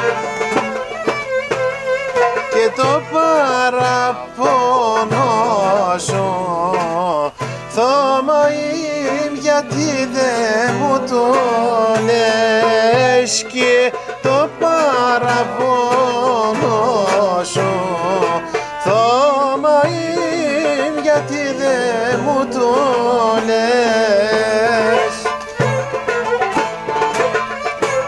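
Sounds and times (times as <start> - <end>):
hand percussion: 0.0 - 28.0
lute: 0.0 - 28.0
violin: 0.0 - 28.0.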